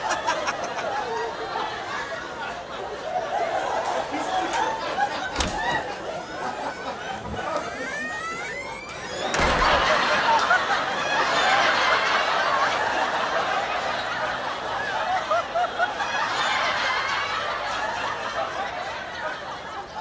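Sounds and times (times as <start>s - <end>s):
crowd laughing: 0.0s - 20.0s.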